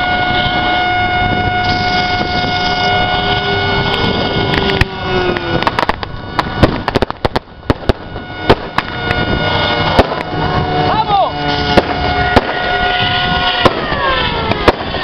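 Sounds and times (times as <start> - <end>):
model airplane engines running: 0.0 - 15.0
pyrotechnic bangs: 0.0 - 15.0.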